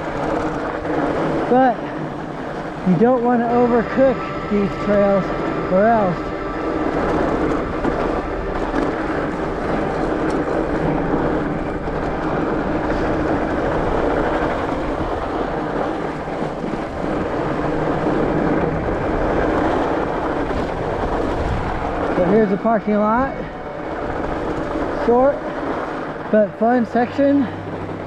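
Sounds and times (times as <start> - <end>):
bike tyres rolling over snow: 0.0 - 28.0
wind rushing over microphone: 0.0 - 28.0.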